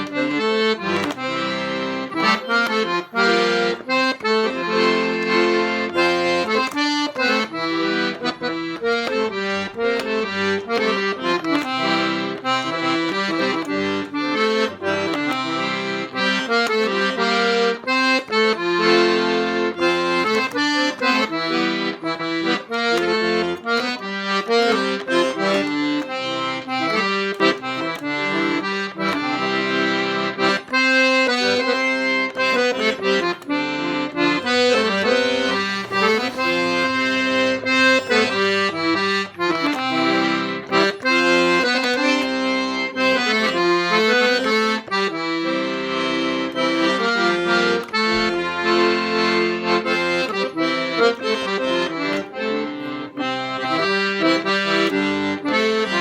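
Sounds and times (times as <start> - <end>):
accordion playing lively melody: 0.0 - 56.0.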